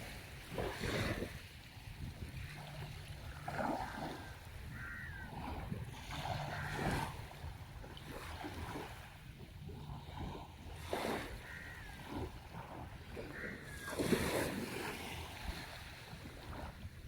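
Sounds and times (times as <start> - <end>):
sea waves breaking ashore: 0.0 - 17.0
wind rumble on microphone: 0.0 - 17.0.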